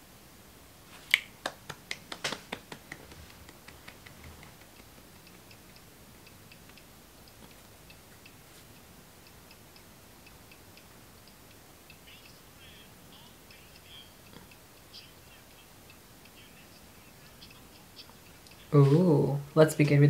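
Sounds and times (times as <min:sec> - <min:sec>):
steady ticking: 0:01.3 - 0:19.6.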